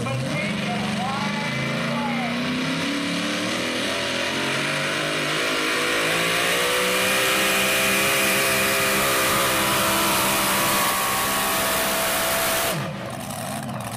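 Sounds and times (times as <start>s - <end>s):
truck engine at high revs: 0.0s - 13.9s.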